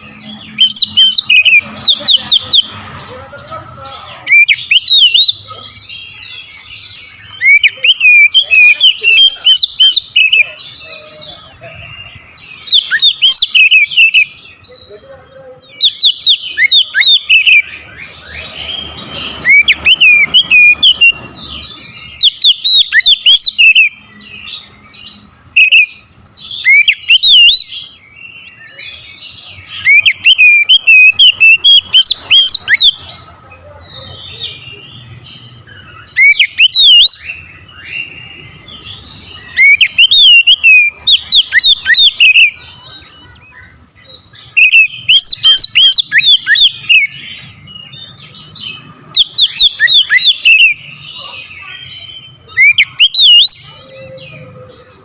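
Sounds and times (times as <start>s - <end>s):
bird singing whistles and trills: 0.0s - 2.8s, 3.8s - 14.9s, 15.6s - 33.3s, 34.0s - 55.0s.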